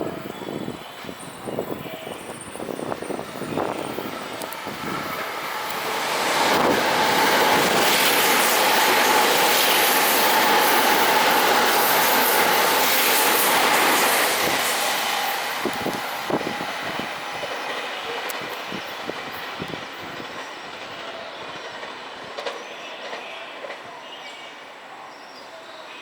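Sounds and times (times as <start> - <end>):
train rushing past: 0.0 - 24.8.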